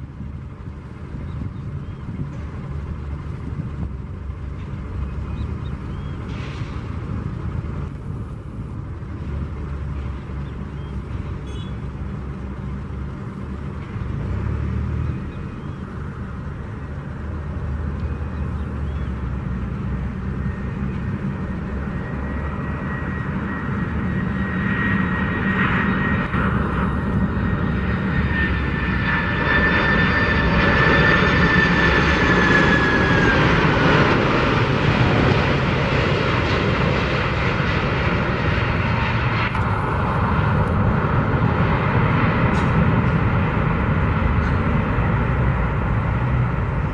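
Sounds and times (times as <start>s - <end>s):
high jet engine whine: 0.0s - 46.9s
jet engines rumbling: 0.0s - 46.9s.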